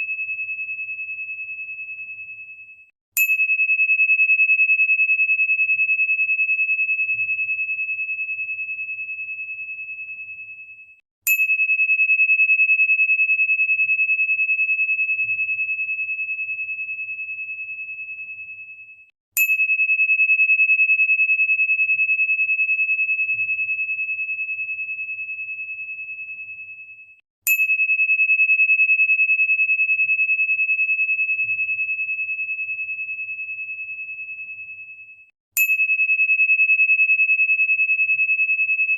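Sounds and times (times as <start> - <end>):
crystal singing bowl ringing: 0.0 - 38.9.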